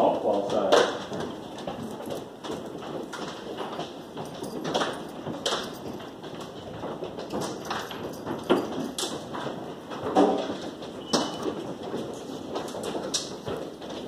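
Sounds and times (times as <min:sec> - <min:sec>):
hailstones striking: 0:00.0 - 0:14.0.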